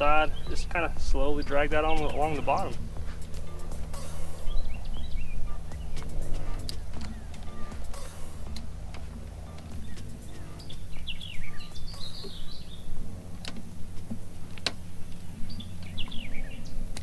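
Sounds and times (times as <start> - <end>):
steady low hum: 0.0 - 17.0
wild birds chirping: 0.0 - 17.0.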